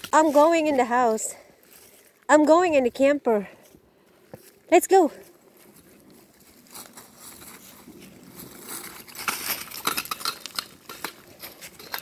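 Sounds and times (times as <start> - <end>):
footsteps crunching dry leaves: 0.0 - 2.3, 3.6 - 12.0.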